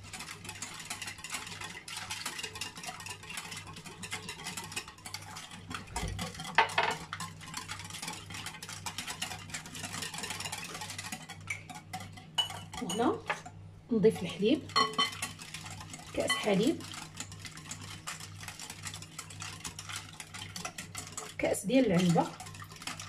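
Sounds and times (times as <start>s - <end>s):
whisk clicking against glass bowl: 0.0s - 13.5s, 14.1s - 23.0s.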